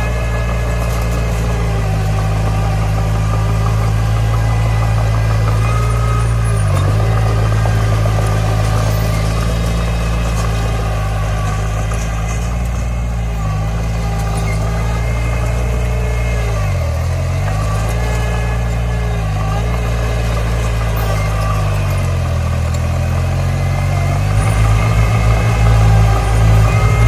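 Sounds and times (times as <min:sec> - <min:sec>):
heavy machinery diesel engine running: 0:00.0 - 0:27.0.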